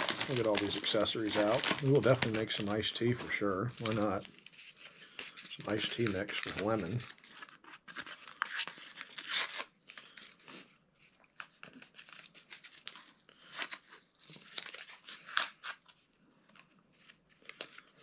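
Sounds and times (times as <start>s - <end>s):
paper packets tearing and crinkling: 0.0s - 10.4s, 11.3s - 18.0s.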